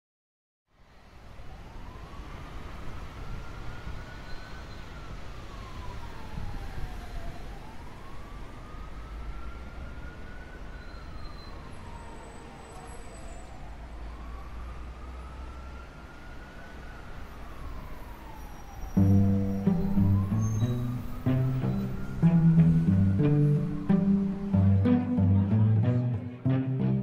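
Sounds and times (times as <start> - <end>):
siren wailing: 1.6 - 27.0.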